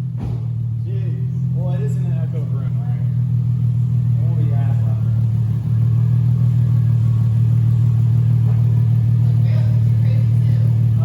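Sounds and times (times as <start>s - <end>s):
car engine droning at steady revs: 0.0s - 11.0s.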